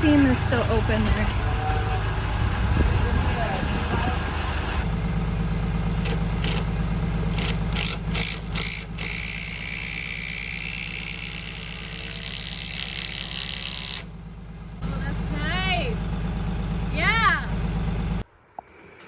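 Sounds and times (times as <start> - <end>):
tractor engine idling: 0.0 - 18.3.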